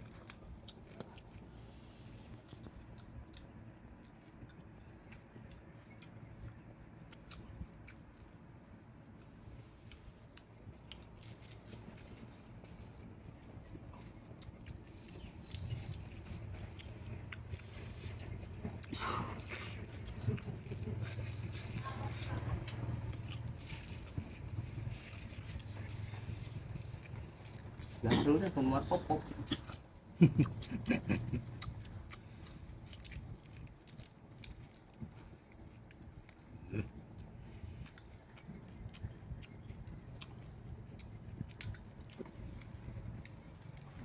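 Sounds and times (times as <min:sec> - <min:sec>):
low steady hum: 0:00.0 - 0:44.0
person chewing food: 0:00.0 - 0:44.0.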